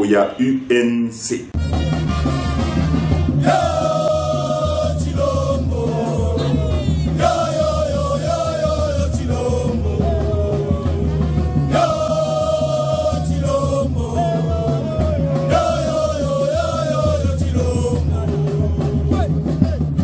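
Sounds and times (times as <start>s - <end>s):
steady bass: 1.5s - 20.0s
group singing: 3.4s - 19.8s.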